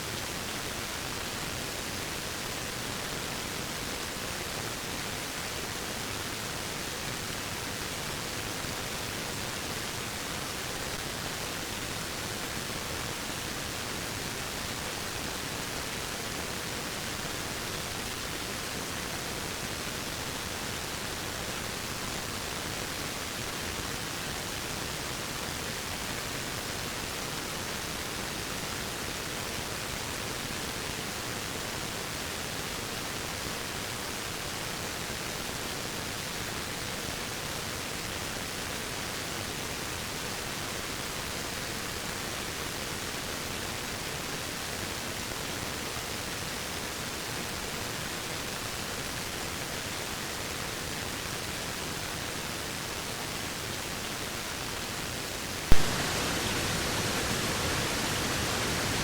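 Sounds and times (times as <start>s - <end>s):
waterfall: 0.0s - 59.0s.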